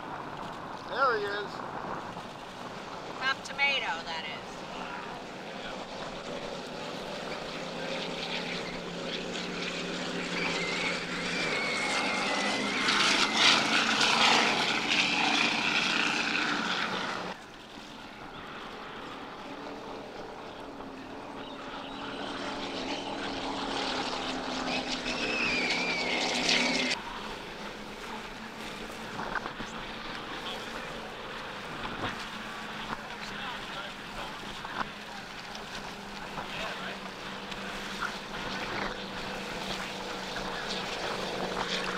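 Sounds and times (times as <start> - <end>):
powerboat engines passing: 0.0 - 41.9.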